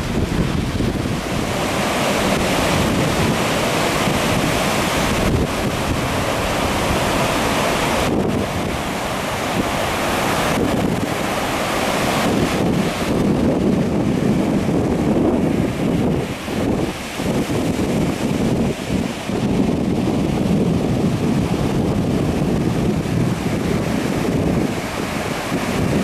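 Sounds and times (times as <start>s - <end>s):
surf washing up a beach: 0.0s - 26.0s
wind buffeting microphone: 0.0s - 26.0s.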